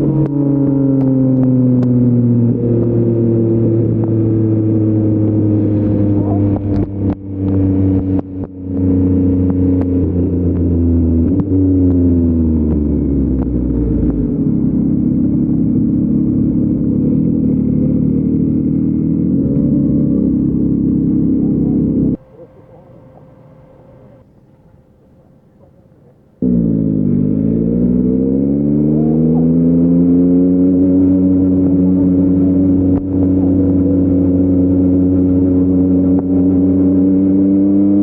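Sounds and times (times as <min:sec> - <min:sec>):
motorcycle engine running: 0:00.0 - 0:38.0
sharp exhaust pops: 0:00.1 - 0:27.2, 0:30.8 - 0:36.7.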